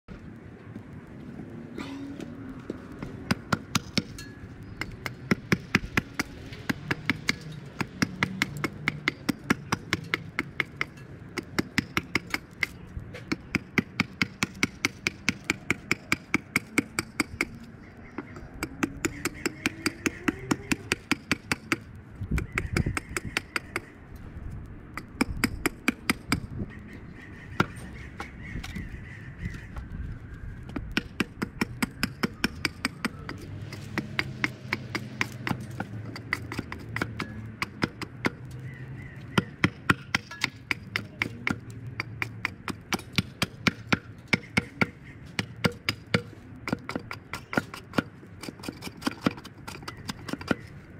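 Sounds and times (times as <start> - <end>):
hatchet chopping wood: 3.3 - 17.6, 18.2 - 23.9, 25.0 - 26.5, 30.7 - 38.5, 39.3 - 50.8.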